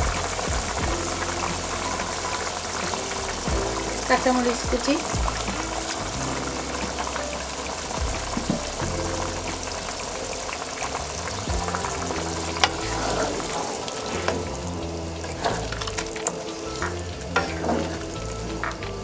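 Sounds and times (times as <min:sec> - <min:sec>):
curry sizzling in a pan: 0:00.0 - 0:18.9
background music with bass: 0:00.0 - 0:19.0.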